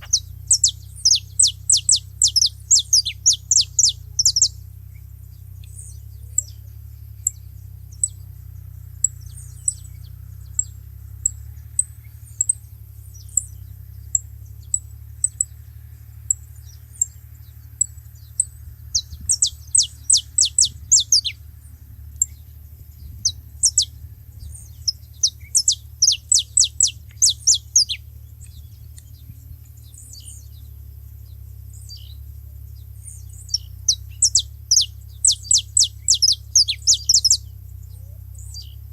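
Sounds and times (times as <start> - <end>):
finches chirping: 0.0 - 38.9
steady low hum: 0.0 - 38.9.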